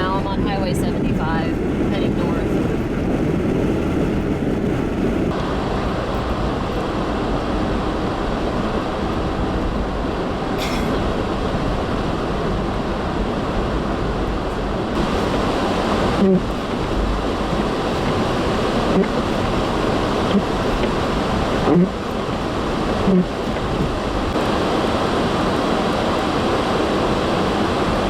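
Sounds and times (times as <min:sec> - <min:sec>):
car tyres rumbling on highway: 0:00.0 - 0:28.0
wind noise: 0:00.0 - 0:28.0.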